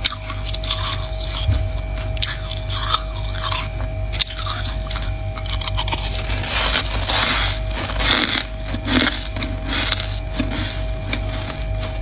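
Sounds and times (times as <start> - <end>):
frost being chewed crunching: 0.0 - 12.0.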